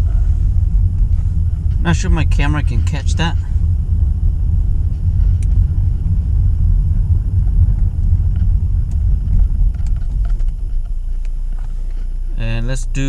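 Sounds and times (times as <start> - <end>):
car driving rumble from cabin: 0.0 - 13.0.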